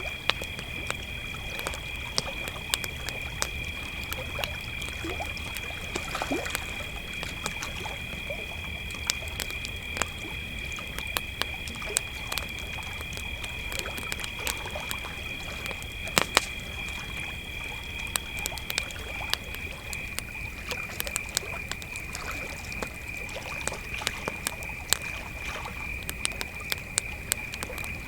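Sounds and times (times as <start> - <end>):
campfire crackling and popping: 0.0 - 28.0
crickets trilling: 0.0 - 28.0
higher cricket chirping: 0.0 - 28.0.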